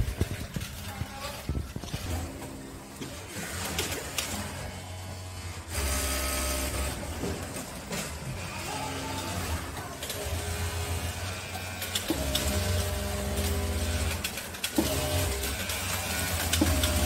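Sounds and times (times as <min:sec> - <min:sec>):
sewing machines humming: 0:00.0 - 0:17.0.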